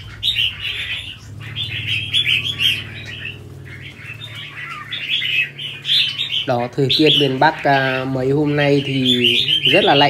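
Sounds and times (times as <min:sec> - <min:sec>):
bird singing in chirped phrases: 0:00.0 - 0:10.0.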